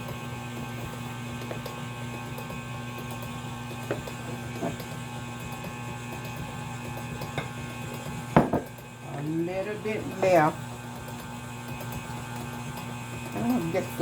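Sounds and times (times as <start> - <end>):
electric mixer beating batter: 0.0 - 14.0.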